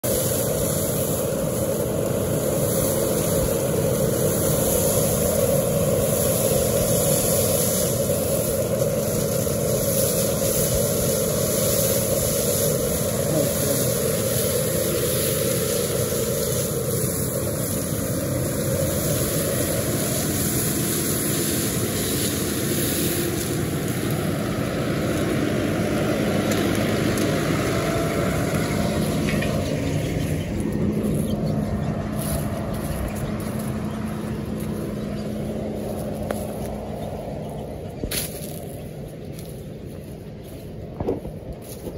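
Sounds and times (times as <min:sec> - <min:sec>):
rotary brushes sweeping soil: 0:00.0 - 0:41.9
tractor engine running: 0:00.0 - 0:41.9.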